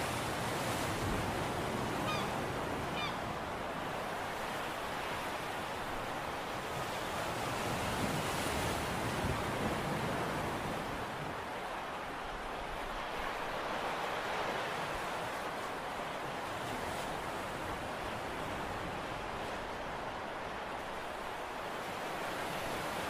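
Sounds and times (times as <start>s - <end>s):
wind and sea rushing: 0.0s - 23.0s.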